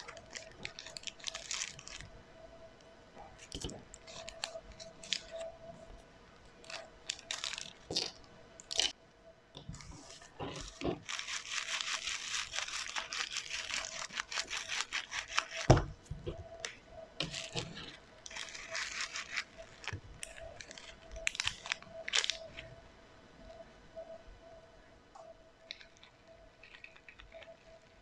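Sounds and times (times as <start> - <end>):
crackling and popping clicks: 0.0 - 22.8, 25.1 - 28.0.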